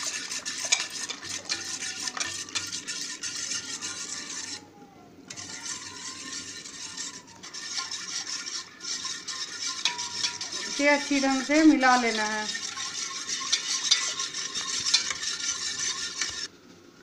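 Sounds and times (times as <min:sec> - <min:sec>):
utensil scraping metal pot: 0:00.0 - 0:04.7, 0:05.3 - 0:16.5.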